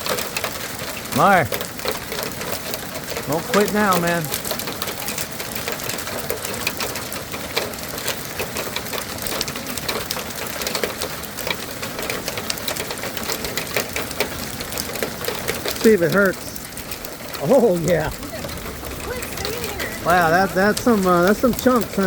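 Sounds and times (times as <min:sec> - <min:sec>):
hail pelting down: 0:00.0 - 0:22.0.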